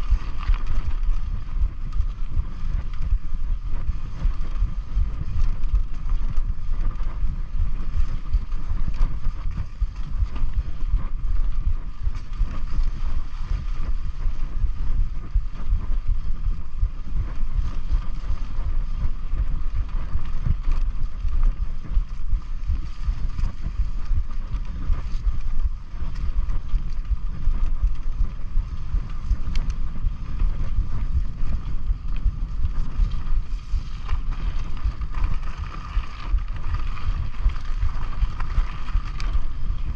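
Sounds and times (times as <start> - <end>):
bike rattling over ground: 0.0 - 39.9
wind rumble on microphone: 0.0 - 39.9.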